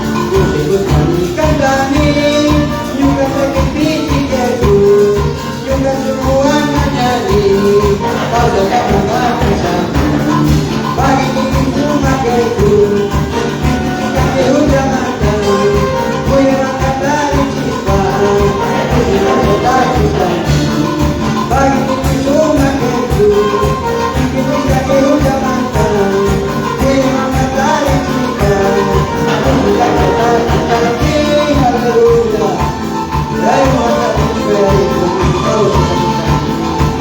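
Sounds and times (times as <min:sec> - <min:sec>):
live band praise music: 0:00.0 - 0:37.0.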